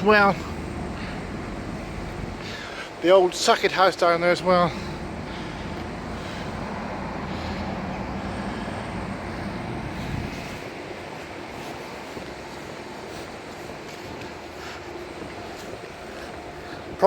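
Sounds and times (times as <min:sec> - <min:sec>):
engine rumble: 0:00.0 - 0:17.0
outdoor background noise: 0:00.0 - 0:17.0.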